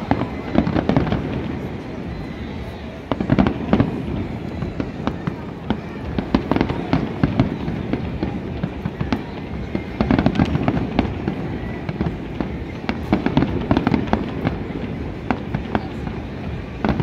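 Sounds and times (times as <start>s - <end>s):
fireworks bursts and crackles: 0.0s - 17.0s.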